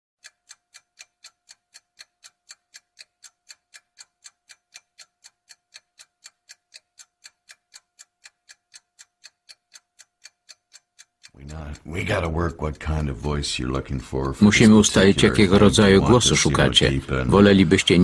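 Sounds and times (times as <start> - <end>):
clock-like ticking: 0.2 - 18.0.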